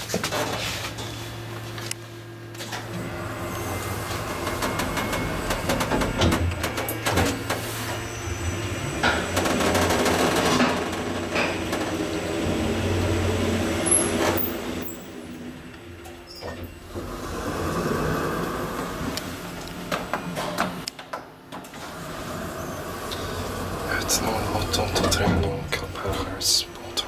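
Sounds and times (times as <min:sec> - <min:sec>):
elevator hum and rumble: 0:00.0 - 0:27.0.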